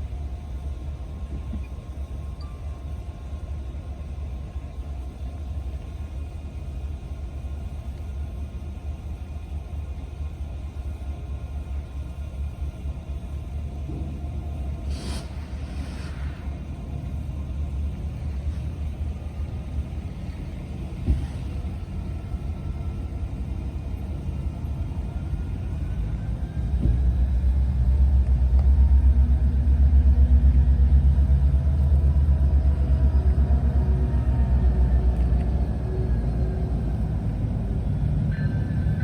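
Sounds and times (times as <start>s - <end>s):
passing train rumbling: 0.0s - 39.0s.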